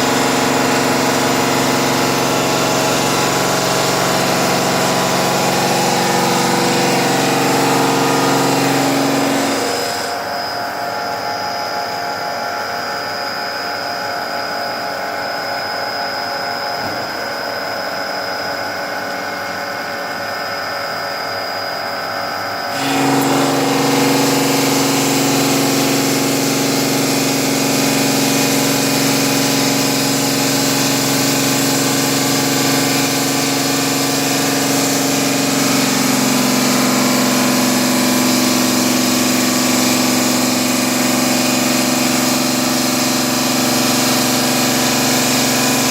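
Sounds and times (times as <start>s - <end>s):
stone-cutting machine running: 0.0s - 22.0s, 22.6s - 45.9s.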